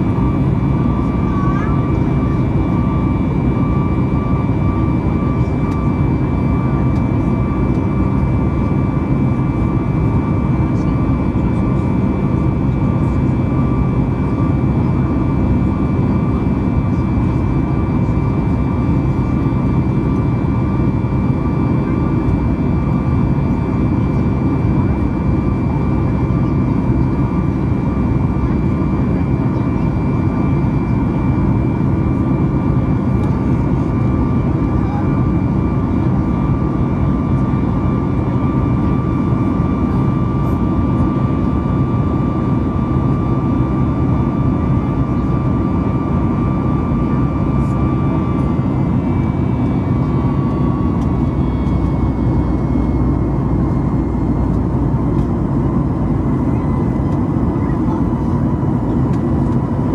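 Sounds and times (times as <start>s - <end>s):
airplane engine and airflow rumble: 0.0s - 59.9s.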